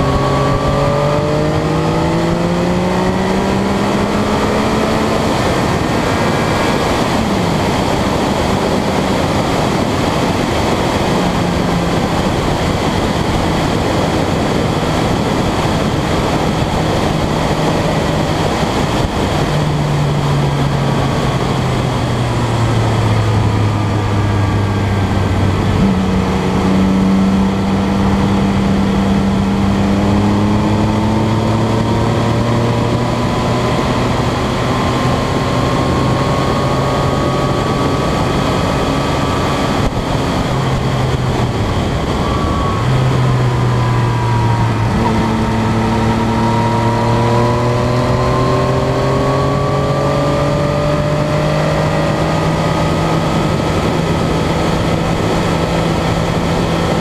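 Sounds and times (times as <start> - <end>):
motorcycle engine: 0.0 - 57.0
wind rushing: 0.0 - 57.0.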